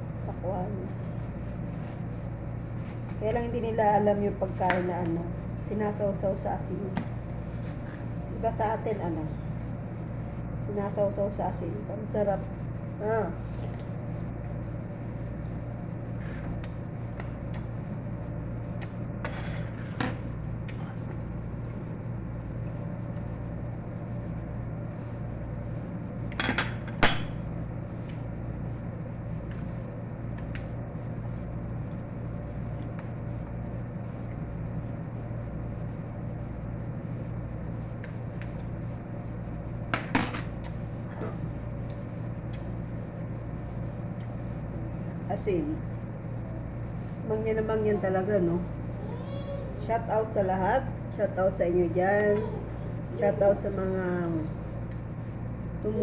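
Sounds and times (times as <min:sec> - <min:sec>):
fan humming: 0:00.0 - 0:56.0.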